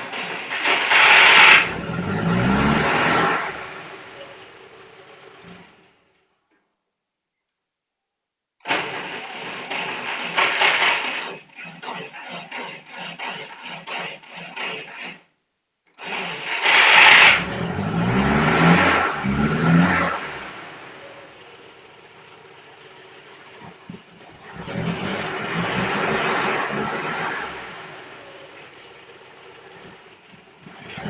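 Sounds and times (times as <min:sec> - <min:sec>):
starter motor cranking: 0:00.0 - 0:06.0, 0:08.6 - 0:15.3, 0:16.0 - 0:31.0
engine revving: 0:00.0 - 0:06.2, 0:08.6 - 0:15.3, 0:16.0 - 0:31.0
engine idling: 0:00.0 - 0:06.3, 0:08.6 - 0:15.2, 0:16.0 - 0:31.0.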